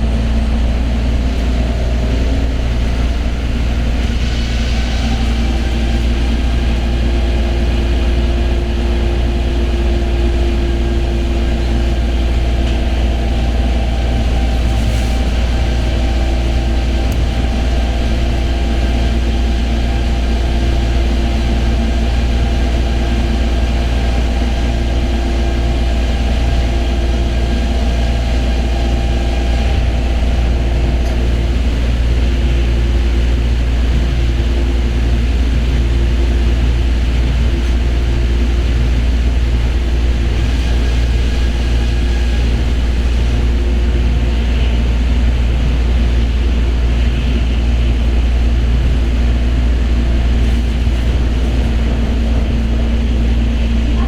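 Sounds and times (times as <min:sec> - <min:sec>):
constant hum: 0:00.0 - 0:54.0
train running rumble: 0:00.0 - 0:54.0.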